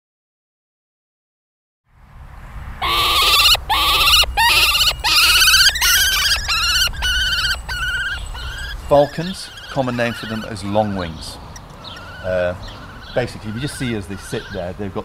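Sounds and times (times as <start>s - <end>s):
bird of prey calling: 2.8s - 15.0s.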